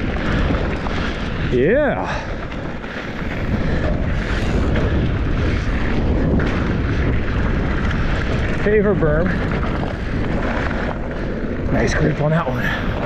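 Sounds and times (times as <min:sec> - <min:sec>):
bike tyres on dirt trail: 0:00.0 - 0:13.0
wind rumble on microphone: 0:00.0 - 0:13.0.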